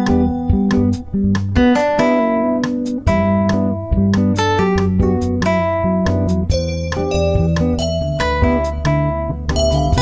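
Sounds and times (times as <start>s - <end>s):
plucked notes: 0.0s - 10.0s.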